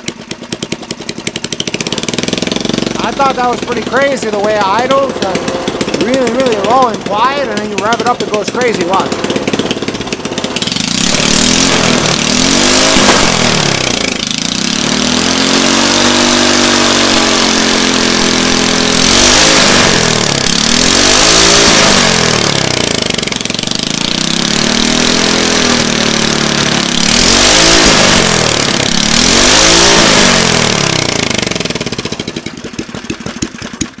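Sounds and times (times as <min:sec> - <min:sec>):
small engine revving: 0:00.0 - 0:34.0.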